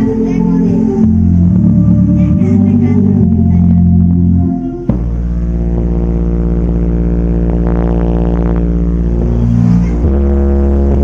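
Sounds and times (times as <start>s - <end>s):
deep bass notes from subwoofers: 0.0s - 11.0s.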